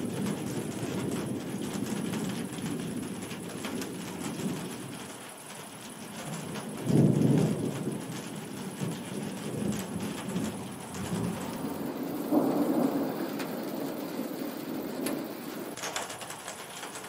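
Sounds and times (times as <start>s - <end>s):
thunder rumbling: 0.0s - 5.1s, 6.2s - 15.8s
steady rain: 0.0s - 17.0s.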